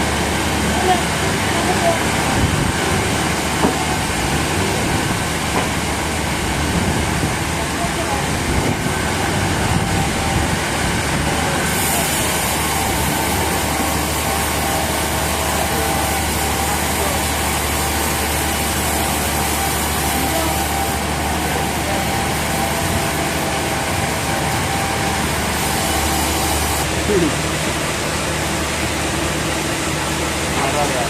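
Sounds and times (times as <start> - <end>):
engine hum: 0.0 - 31.0
machinery whirring: 0.0 - 31.0.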